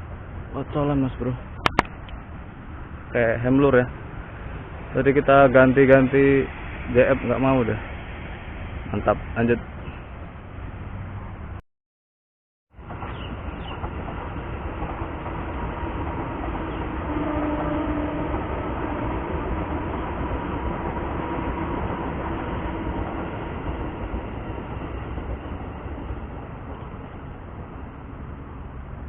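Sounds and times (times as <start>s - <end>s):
train passing rumble: 0.0s - 11.6s, 12.8s - 29.0s.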